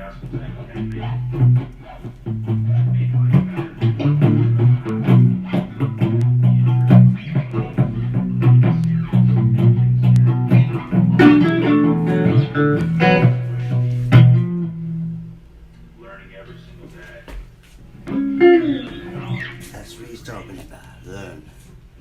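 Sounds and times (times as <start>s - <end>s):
guitar playing blues riff: 0.0s - 15.3s, 18.1s - 21.4s.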